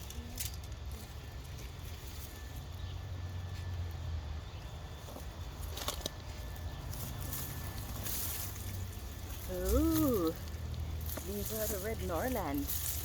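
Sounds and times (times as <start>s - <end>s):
hands rustling through soil: 0.0s - 13.0s
steady low rumble: 0.0s - 13.0s.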